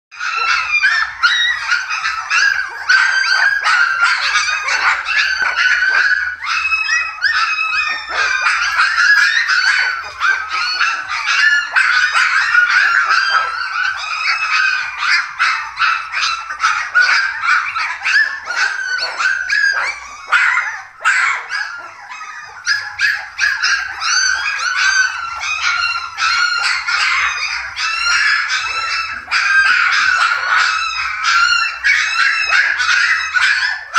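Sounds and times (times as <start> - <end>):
puppies whining and yelping: 0.1 - 33.9.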